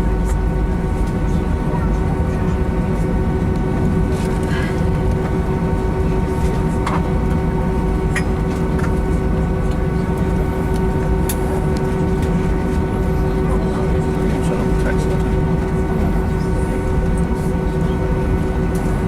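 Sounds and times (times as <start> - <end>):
jet engines humming in cabin: 0.0 - 19.0.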